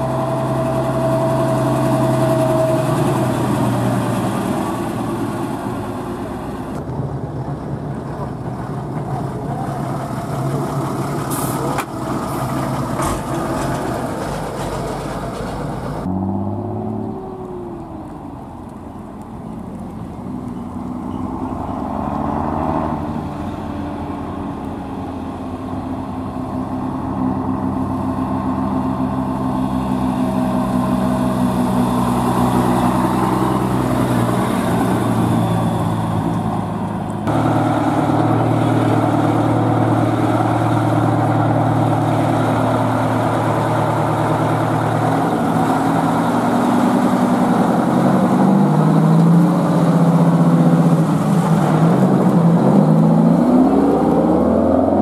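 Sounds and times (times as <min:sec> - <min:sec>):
large truck engine running: 0:00.0 - 0:55.0
truck diesel engine passing: 0:00.0 - 0:55.0.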